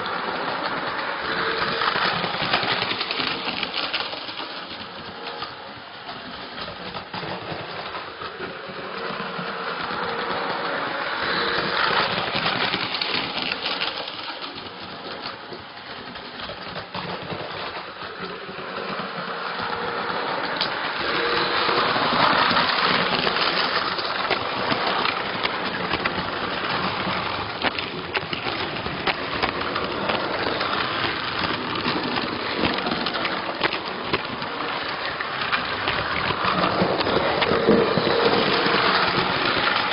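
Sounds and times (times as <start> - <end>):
clicks on rails: 0.0 - 39.9
model train wheels clattering: 0.0 - 39.9.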